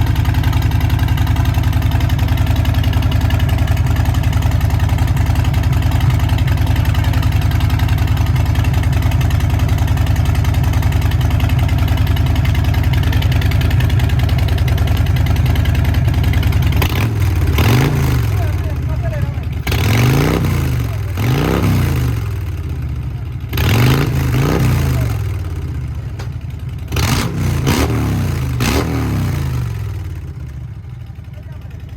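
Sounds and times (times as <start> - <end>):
motorcycle idling: 0.0 - 31.9.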